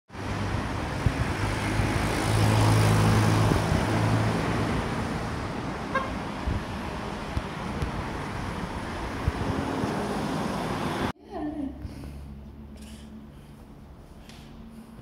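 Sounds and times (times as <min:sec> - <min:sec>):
vehicle engine hum passing: 0:00.1 - 0:15.0.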